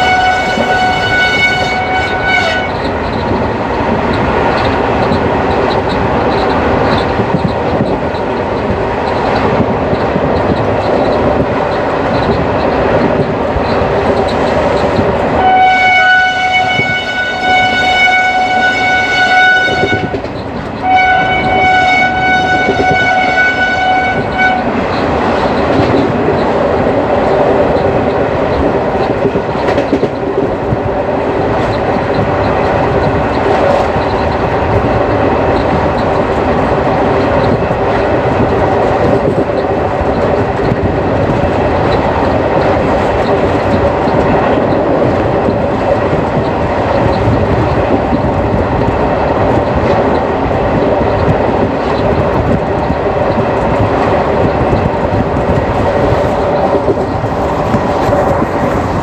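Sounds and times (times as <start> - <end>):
train coach rumbling: 0.0 - 59.0
wheels clattering on rails: 0.0 - 59.0.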